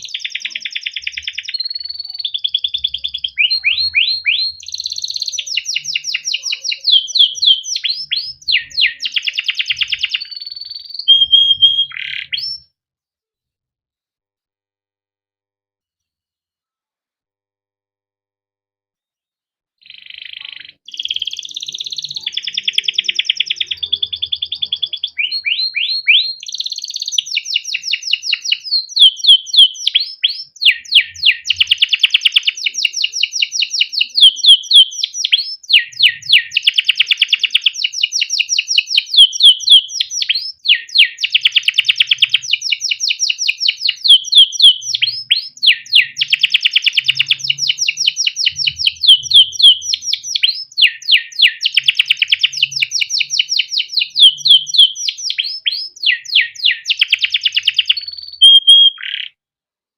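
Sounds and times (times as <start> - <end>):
canary singing trills: 0.0 - 12.7, 19.8 - 59.4
canary chirps: 0.0 - 12.8, 19.8 - 59.4.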